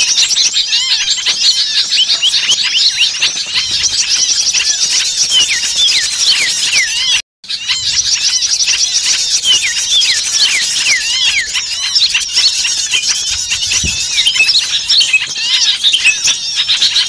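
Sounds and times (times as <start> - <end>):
small songbirds chirping in alarm: 0.0 - 17.0.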